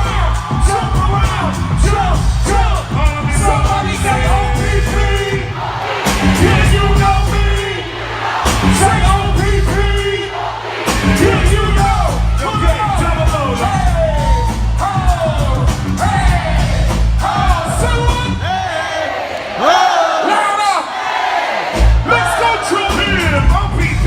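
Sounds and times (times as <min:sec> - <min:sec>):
hip-hop music with heavy bass beat: 0:00.0 - 0:19.0, 0:21.7 - 0:24.0
rapping vocals: 0:00.0 - 0:19.0, 0:21.9 - 0:24.0
crowd: 0:00.0 - 0:24.0.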